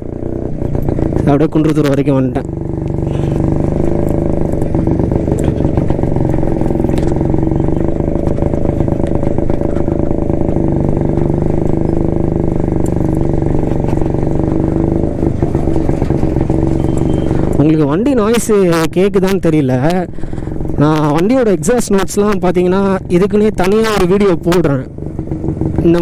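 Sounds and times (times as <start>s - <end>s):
two-stroke motorcycle engine running: 0.0s - 26.0s.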